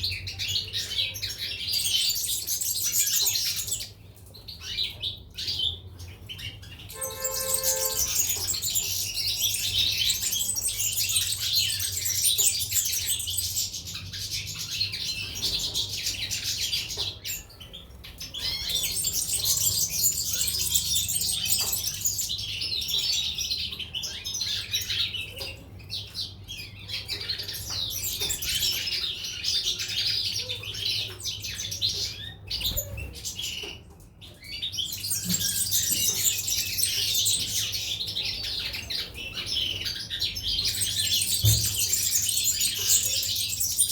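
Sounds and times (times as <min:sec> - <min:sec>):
songbirds chirping and twittering: 0:00.0 - 0:43.9.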